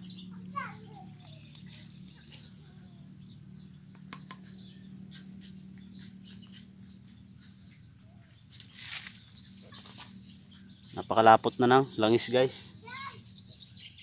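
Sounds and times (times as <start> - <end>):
faint chirps: 0.0 - 14.0
high insect buzz: 0.0 - 14.0
low steady hum: 0.0 - 14.0.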